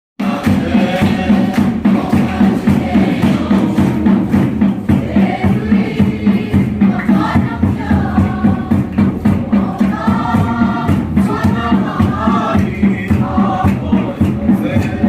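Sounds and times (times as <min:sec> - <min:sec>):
congregation singing: 0:00.2 - 0:15.0
fast steady beat: 0:00.2 - 0:15.0.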